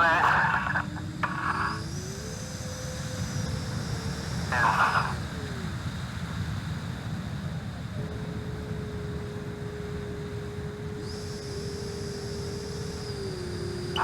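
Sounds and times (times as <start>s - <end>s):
higher whine: 0.0s - 5.9s, 8.0s - 14.0s
electric jet fan whine: 0.0s - 14.0s.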